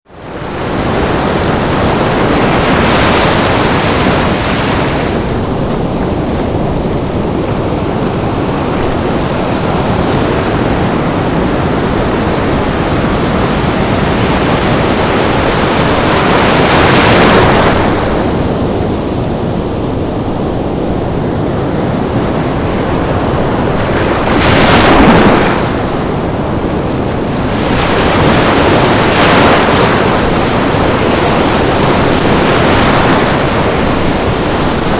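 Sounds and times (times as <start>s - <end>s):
sea waves breaking on beach: 0.1s - 34.9s.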